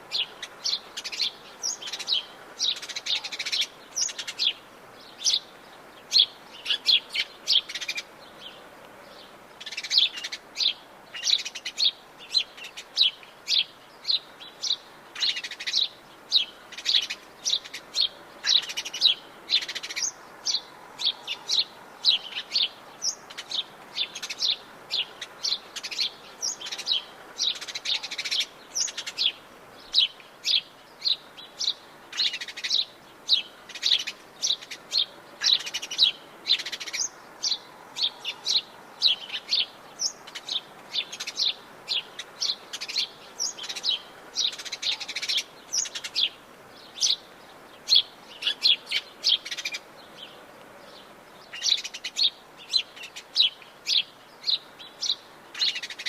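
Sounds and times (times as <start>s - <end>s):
faint steady hiss: 0.0s - 56.0s
birds chirping and singing: 0.1s - 56.0s.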